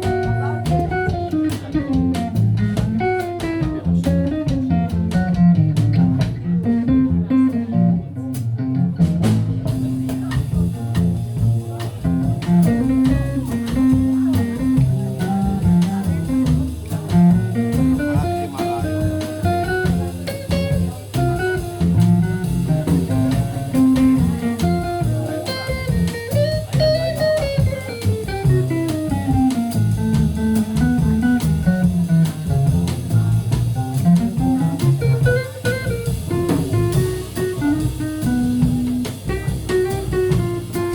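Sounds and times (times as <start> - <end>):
guitar melody: 0.0 - 40.9
jazz soul band playing: 0.0 - 40.9.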